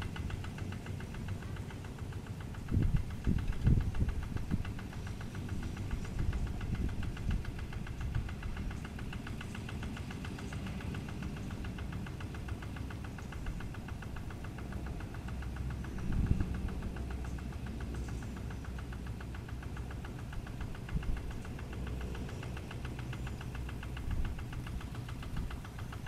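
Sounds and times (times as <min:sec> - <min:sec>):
diesel engine knocking: 0:00.0 - 0:26.0.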